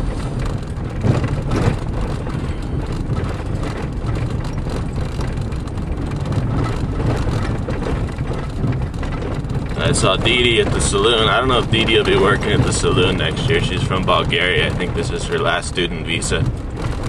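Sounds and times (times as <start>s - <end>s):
car bumps: 0.0s - 15.6s
engine and road rumble: 0.0s - 17.0s
rattling in car cabin: 0.0s - 17.0s.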